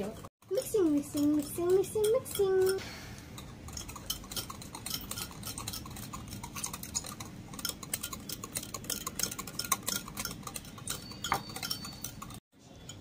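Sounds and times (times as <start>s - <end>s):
whisk clinking against glass: 0.0s - 2.8s, 3.4s - 13.0s.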